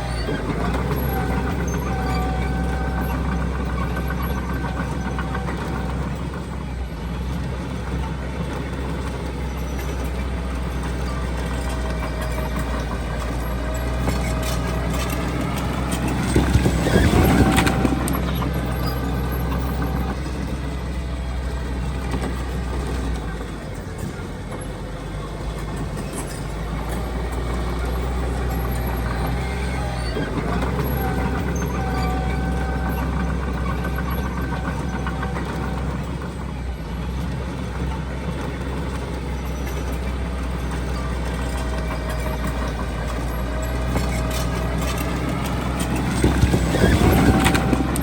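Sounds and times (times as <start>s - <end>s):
heavy machinery diesel engine running: 0.0s - 48.0s.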